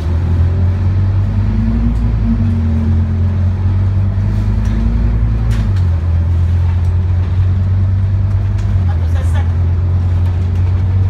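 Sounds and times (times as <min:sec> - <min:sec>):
bus engine low drone: 0:00.0 - 0:11.0.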